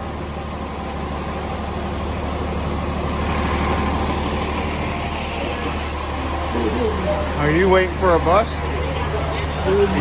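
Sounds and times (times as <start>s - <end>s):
large vehicle engine running: 0.0s - 10.0s.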